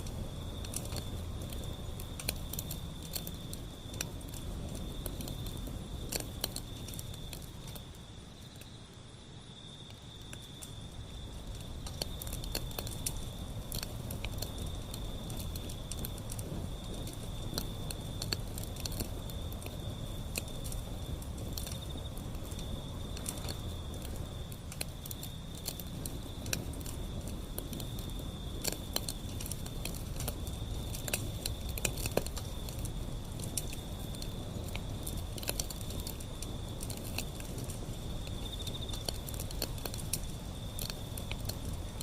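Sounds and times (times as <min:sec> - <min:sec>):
cricket trill: 0:00.0 - 0:42.0
wood fire crackling: 0:00.0 - 0:42.0.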